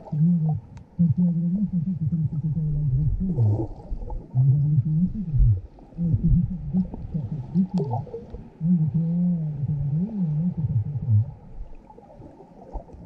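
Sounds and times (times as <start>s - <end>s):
low moaning tones: 0.0s - 11.7s.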